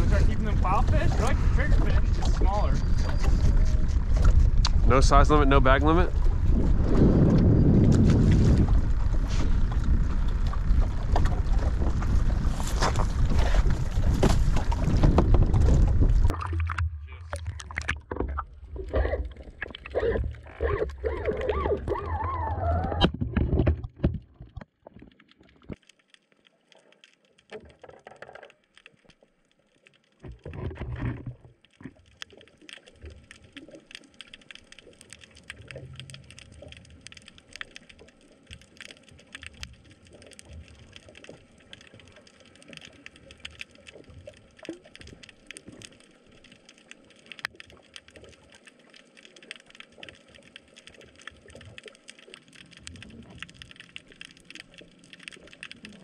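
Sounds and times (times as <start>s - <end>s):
underwater crackle of tiny clicks: 0.0s - 56.0s.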